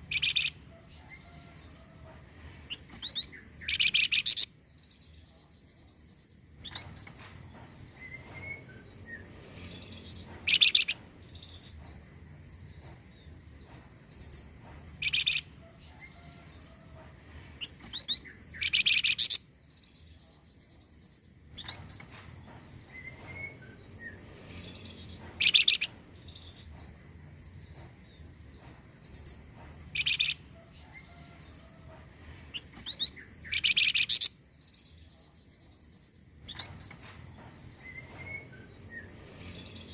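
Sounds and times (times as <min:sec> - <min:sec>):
recorded birdsong chirps and trills: 0:00.0 - 0:39.9.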